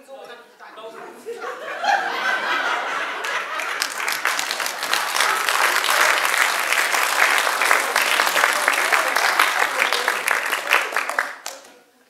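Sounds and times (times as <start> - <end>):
audience applauding: 1.7 - 11.8.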